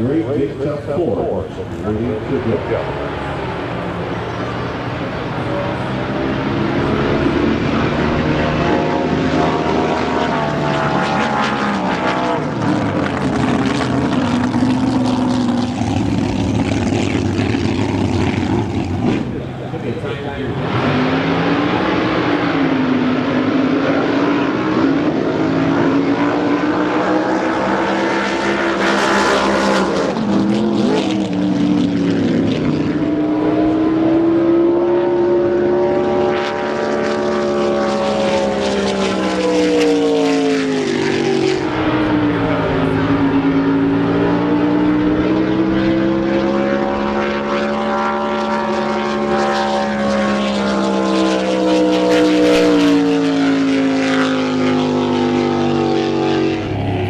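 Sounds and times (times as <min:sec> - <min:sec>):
boat engine running: 0:00.0 - 0:20.6, 0:22.8 - 0:57.0.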